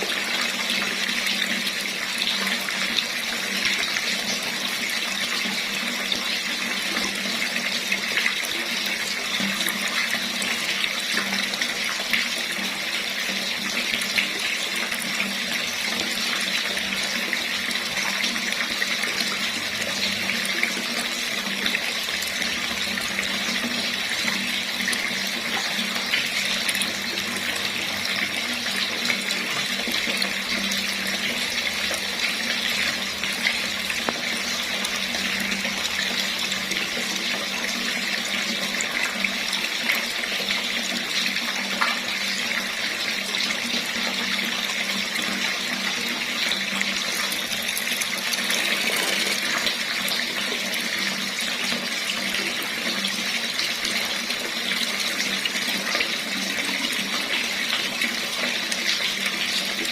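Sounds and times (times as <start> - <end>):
tap water splashing into basin: 0.0 - 59.9.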